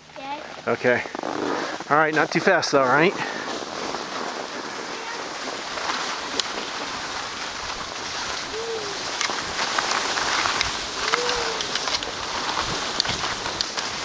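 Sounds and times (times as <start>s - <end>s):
skis sliding on snow: 0.0s - 14.0s.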